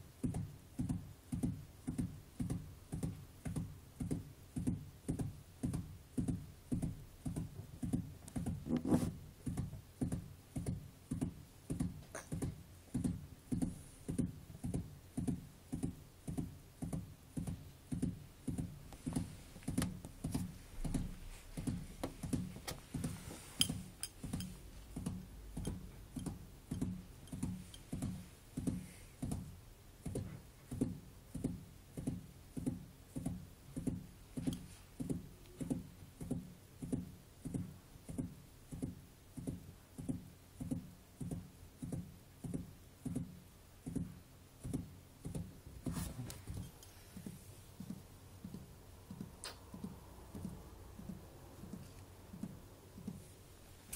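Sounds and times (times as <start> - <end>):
gerbil drumming hind feet: 0.2 - 53.9.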